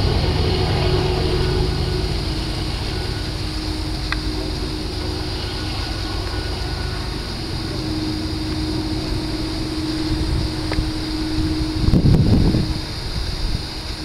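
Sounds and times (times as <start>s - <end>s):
distant locomotive engine drone: 0.0s - 14.0s
low train rumble: 0.0s - 14.0s.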